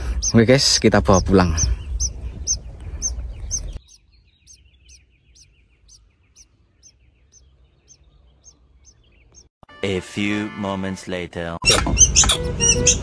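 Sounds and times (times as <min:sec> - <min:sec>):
small bird chirping: 0:00.0 - 0:09.5, 0:11.6 - 0:13.0.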